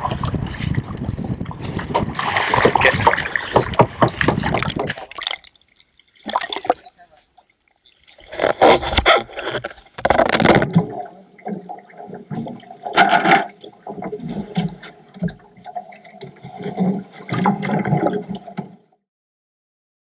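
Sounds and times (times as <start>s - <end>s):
water splashing: 0.0s - 18.9s.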